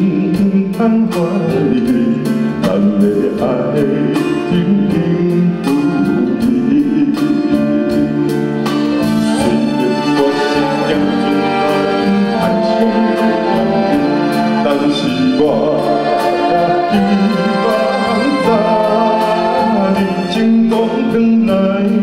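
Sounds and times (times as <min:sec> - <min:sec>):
man singing into a microphone: 0:00.0 - 0:08.3, 0:09.2 - 0:22.0
band accompaniment: 0:00.0 - 0:22.0.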